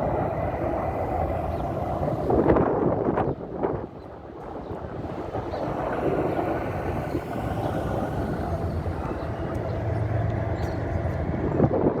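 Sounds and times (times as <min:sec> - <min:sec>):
helicopter rotors and turbines: 0:00.0 - 0:12.0.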